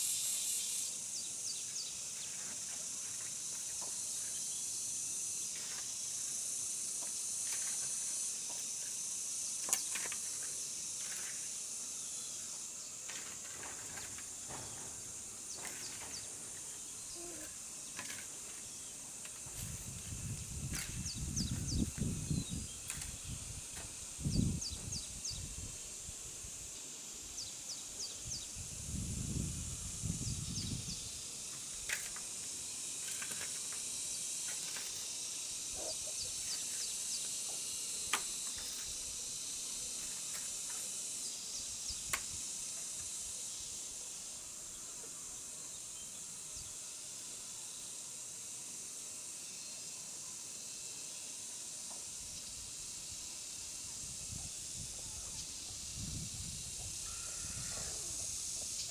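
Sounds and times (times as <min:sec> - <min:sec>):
outdoor ambience hiss: 0:00.0 - 0:58.9.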